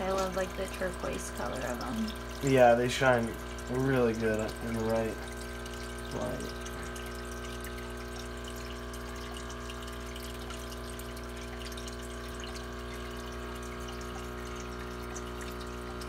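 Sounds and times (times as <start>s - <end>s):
filter motor hum: 0.0s - 16.0s
water trickling: 0.0s - 16.0s.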